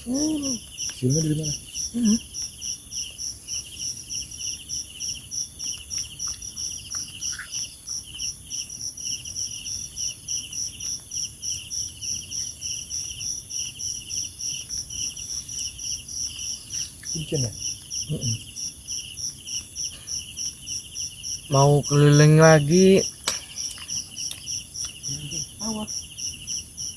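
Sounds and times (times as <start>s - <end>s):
high-pitched insect whine: 0.0s - 26.9s
insects chirping in pulses: 0.0s - 26.9s.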